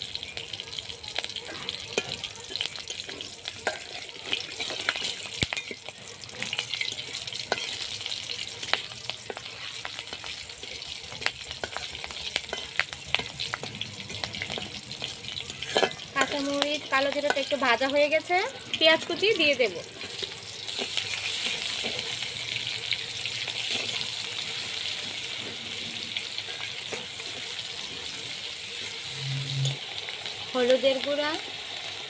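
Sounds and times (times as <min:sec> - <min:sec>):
chillies sizzling in hot oil: 0:00.0 - 0:32.0.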